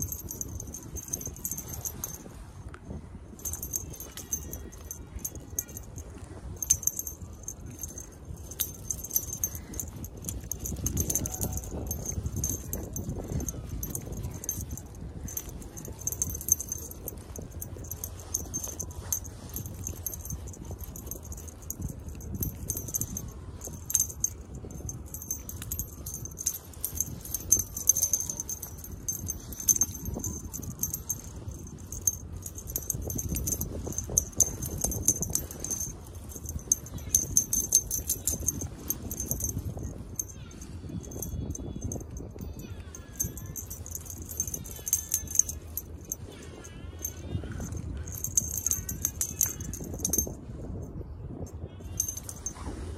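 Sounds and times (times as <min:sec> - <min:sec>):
small bell jingling: 0:00.0 - 0:52.9.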